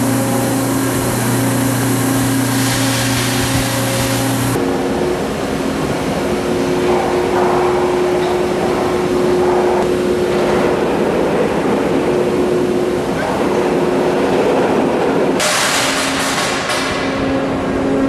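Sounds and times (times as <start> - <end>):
drilling rig machinery rumble: 0.0 - 18.0.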